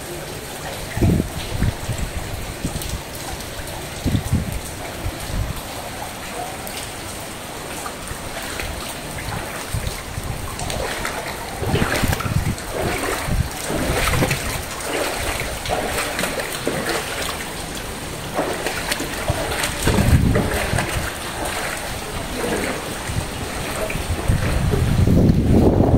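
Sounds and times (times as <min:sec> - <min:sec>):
rain on water: 0:00.0 - 0:25.9
water trickling and splashing: 0:00.0 - 0:25.9.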